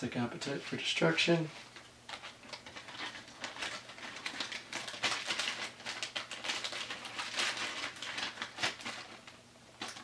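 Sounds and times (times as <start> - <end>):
plastic sleeves crinkling: 1.0 - 10.0.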